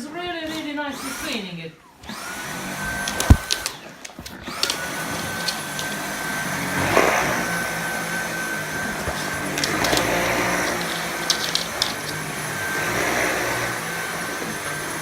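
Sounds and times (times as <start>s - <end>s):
vacuum cleaner whining on carpet: 2.0s - 15.0s.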